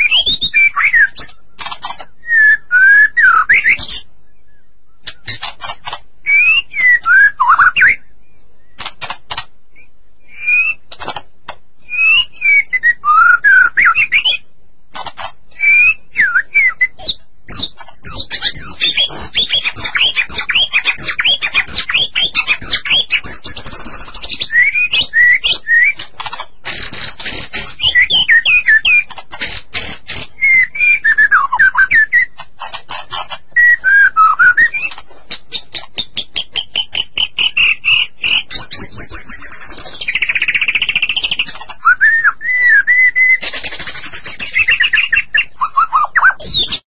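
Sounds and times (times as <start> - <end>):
bird singing whistled phrases: 0.0 - 1.5, 2.2 - 5.3, 6.2 - 8.1, 9.8 - 10.9, 11.8 - 14.5, 15.5 - 26.0, 26.7 - 29.1, 30.1 - 32.4, 33.0 - 35.0, 36.5 - 46.8.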